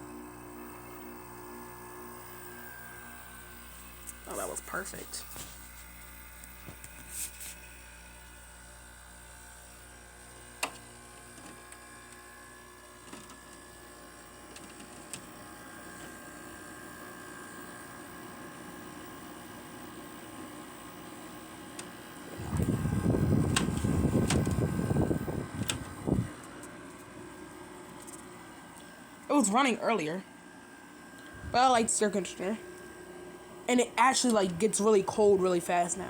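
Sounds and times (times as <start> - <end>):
air conditioner humming: 0.7 - 9.0, 10.1 - 36.0.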